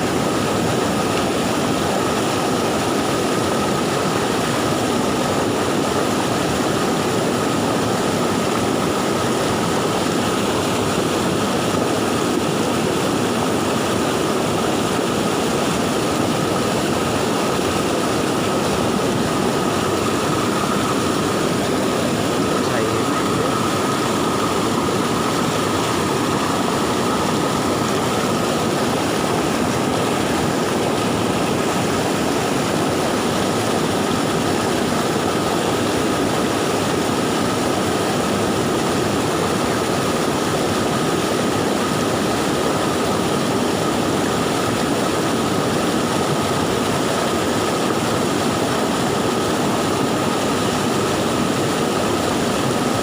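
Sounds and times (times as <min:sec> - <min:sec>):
floodwater rushing in river: 0:00.0 - 0:53.0.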